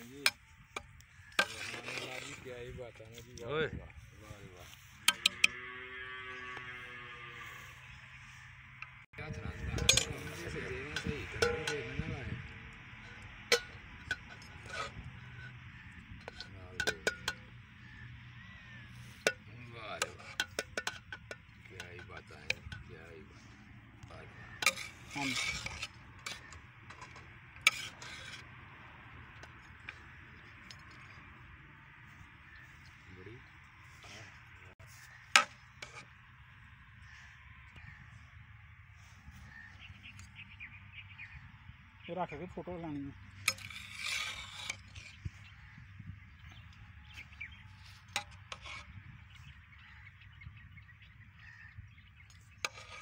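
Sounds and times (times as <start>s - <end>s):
distant birds calling: 0.0s - 53.0s.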